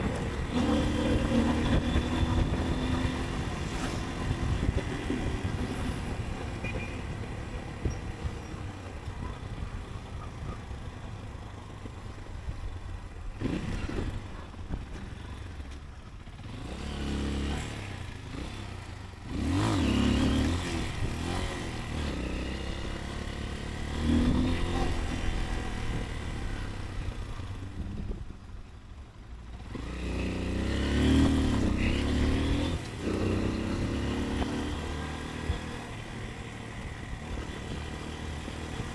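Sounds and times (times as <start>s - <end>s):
motorcycle engine revving: 0.0s - 8.6s, 13.2s - 15.6s, 16.2s - 28.5s, 29.5s - 38.9s
road and wind noise: 0.0s - 38.9s.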